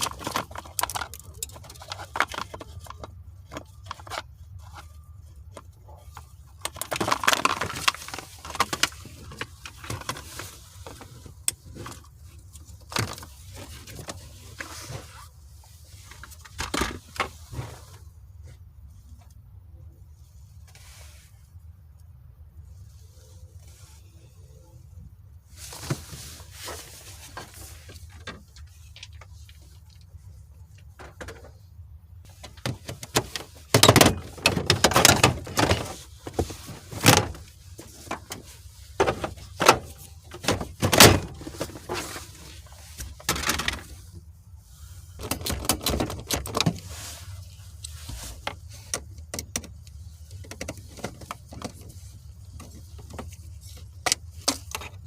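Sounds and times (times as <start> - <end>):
scraping and rustling: 0.0 - 19.3, 25.4 - 55.0.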